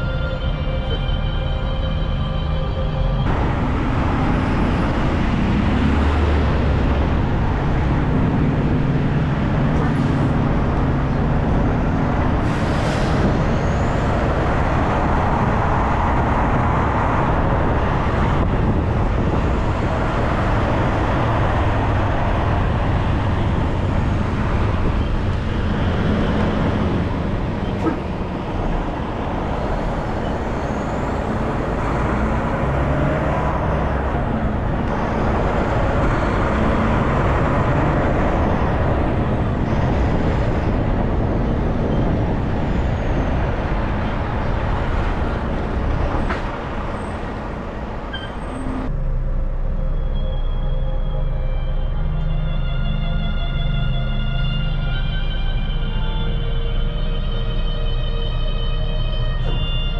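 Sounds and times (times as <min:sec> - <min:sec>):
road noise: 0:00.0 - 0:59.9
truck engine running: 0:00.0 - 0:59.9.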